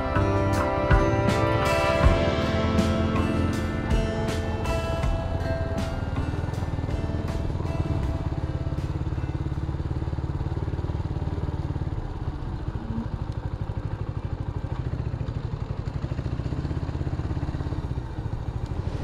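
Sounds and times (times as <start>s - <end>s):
motorbike engine idling: 0.0s - 19.0s.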